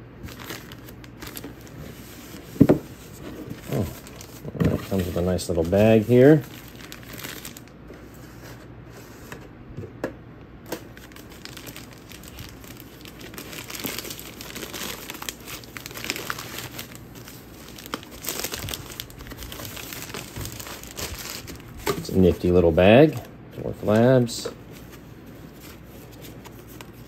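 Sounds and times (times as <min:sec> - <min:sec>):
plastic wrapping crinkling: 0:00.2 - 0:07.8, 0:10.8 - 0:27.0.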